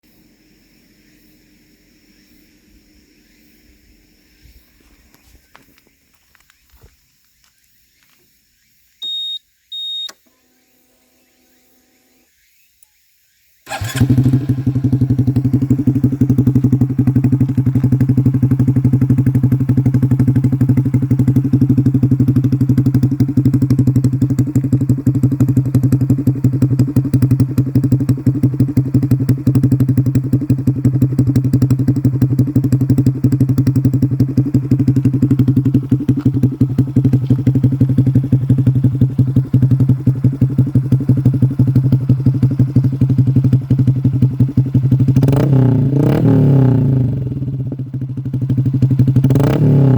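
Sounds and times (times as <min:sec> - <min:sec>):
motorcycle engine idling: 0:00.1 - 0:12.0, 0:13.6 - 0:49.9.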